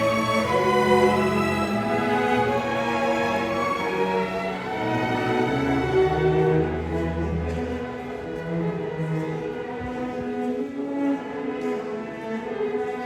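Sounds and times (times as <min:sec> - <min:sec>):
bowed strings playing slow classical music: 0:00.0 - 0:13.0.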